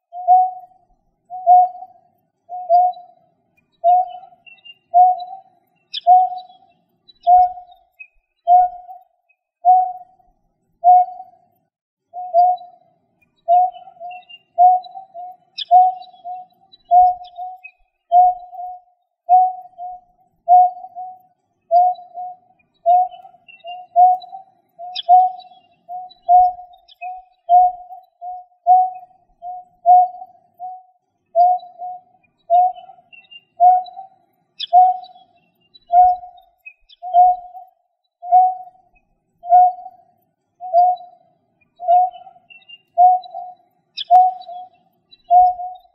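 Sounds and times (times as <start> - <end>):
bird calling low hollow notes: 0.1 - 3.2, 3.8 - 10.2, 10.8 - 11.4, 13.4 - 41.2, 41.8 - 45.9.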